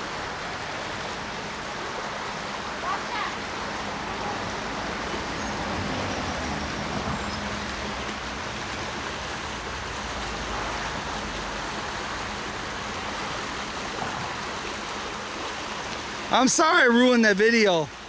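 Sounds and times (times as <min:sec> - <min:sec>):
creek rushing: 0:00.0 - 0:18.0.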